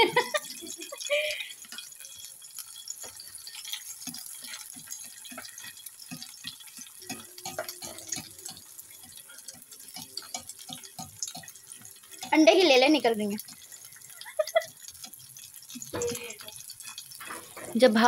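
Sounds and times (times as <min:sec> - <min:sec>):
egg sizzling in hot oil: 0:00.0 - 0:18.0
spattering oil crackles and pops: 0:00.0 - 0:18.0.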